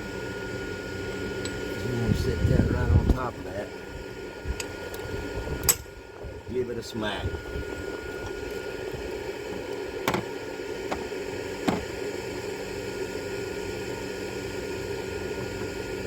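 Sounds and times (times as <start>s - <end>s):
background hiss and hum: 0.0s - 16.0s.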